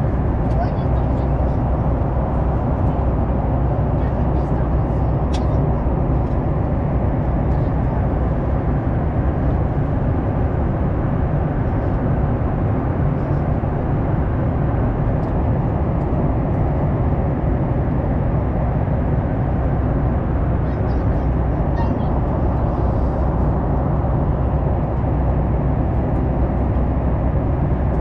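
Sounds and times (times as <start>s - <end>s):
airplane cabin noise: 0.0s - 28.0s.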